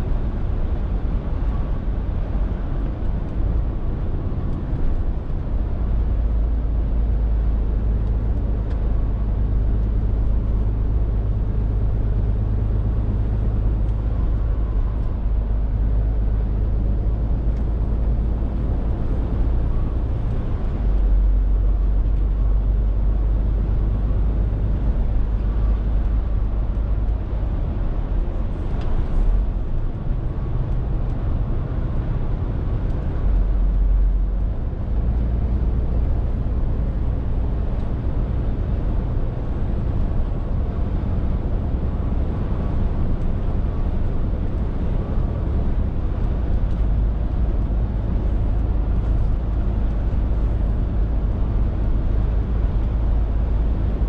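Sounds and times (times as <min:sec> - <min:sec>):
lorry diesel engine running: 0:00.0 - 0:54.0
road noise: 0:00.0 - 0:54.0.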